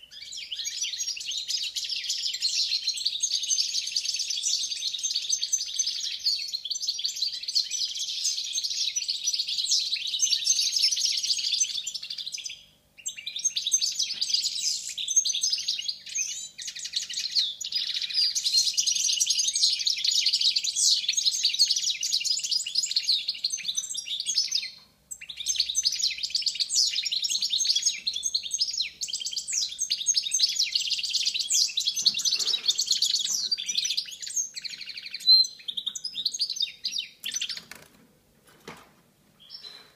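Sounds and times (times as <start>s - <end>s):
goldfinch twittering song: 0.0s - 37.8s.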